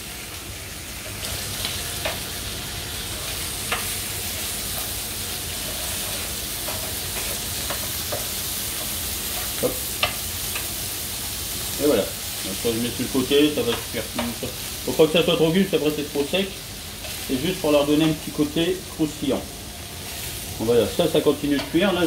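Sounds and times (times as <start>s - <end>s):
meat sizzling on a griddle: 0.0s - 22.0s.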